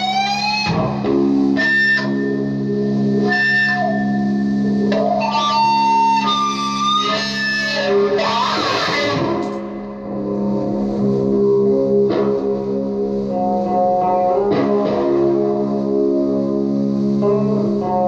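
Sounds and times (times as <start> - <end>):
electric guitar lead notes: 0.0 - 18.0
low guitar drone: 0.0 - 18.0.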